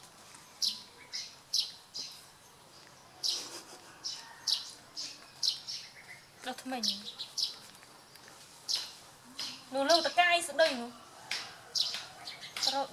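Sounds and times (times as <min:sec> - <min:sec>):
small birds chirping: 0:00.2 - 0:12.9.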